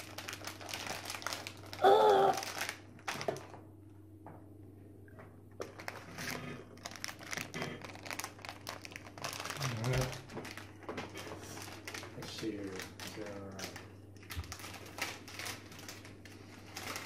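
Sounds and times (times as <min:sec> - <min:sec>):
plastic pouch crinkling: 0:00.0 - 0:03.6, 0:05.6 - 0:17.0.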